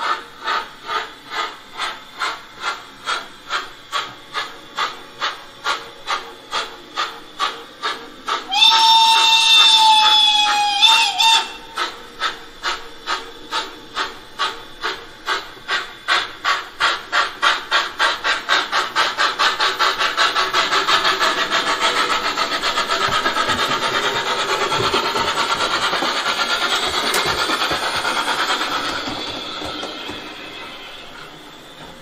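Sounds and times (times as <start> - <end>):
steam locomotive exhaust chuffs: 0.0 - 32.0.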